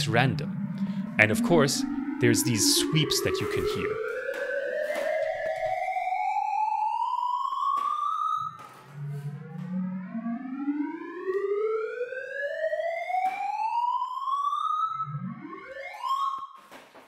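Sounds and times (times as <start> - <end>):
rising electronic tone sweeps: 0.0 - 16.4.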